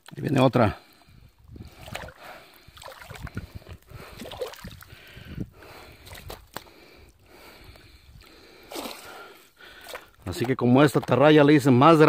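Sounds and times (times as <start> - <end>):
water dripping: 0.0 - 11.8
water sloshing and splashing: 0.0 - 11.8.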